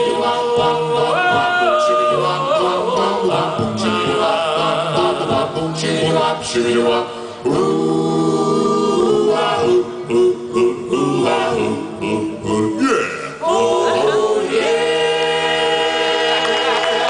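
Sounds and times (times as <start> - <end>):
mixed voices singing in close harmony: 0.0 - 17.0.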